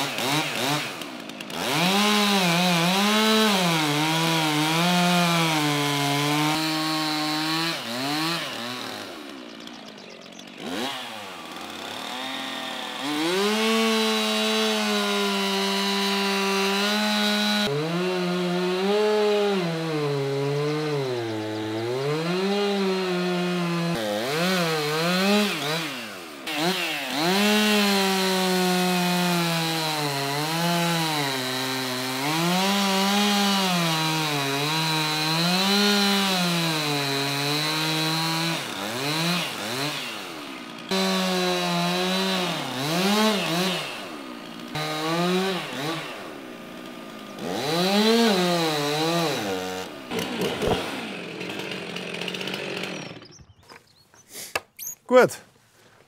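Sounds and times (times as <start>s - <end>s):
chainsaw cutting into log: 0.0s - 55.0s.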